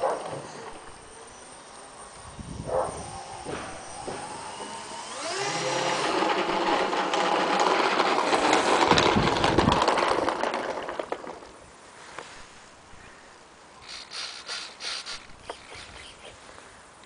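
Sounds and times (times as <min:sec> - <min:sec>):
electric motors and propellers whining: 0:00.0 - 0:11.7, 0:13.8 - 0:17.0.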